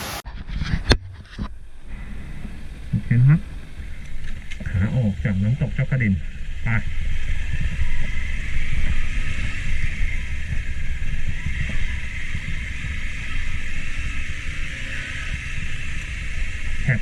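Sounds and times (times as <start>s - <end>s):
steady high hiss: 0.0s - 0.2s, 1.5s - 17.0s
motorcycle engine: 0.0s - 0.3s, 1.5s - 17.0s
wind rumbling on microphone: 0.0s - 17.0s.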